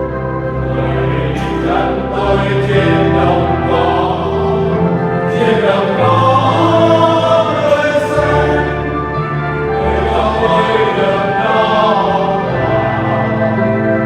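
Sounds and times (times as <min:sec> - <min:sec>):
choir singing a hymn: 0:00.0 - 0:14.0
held bass notes of accompaniment: 0:00.0 - 0:14.0.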